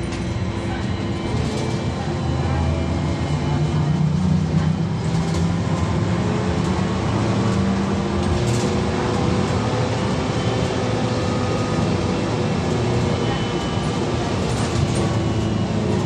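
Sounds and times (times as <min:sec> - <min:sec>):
road and body rumble: 0:00.0 - 0:16.0.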